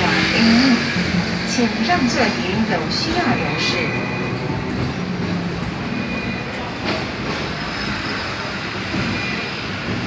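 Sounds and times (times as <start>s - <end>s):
tram wheels rumbling and rattling: 0.0s - 10.0s.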